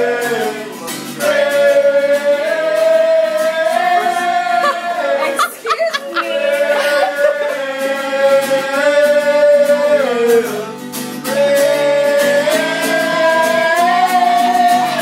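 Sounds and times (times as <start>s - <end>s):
strummed acoustic guitar: 0.0s - 15.0s
person singing long notes: 1.2s - 15.0s.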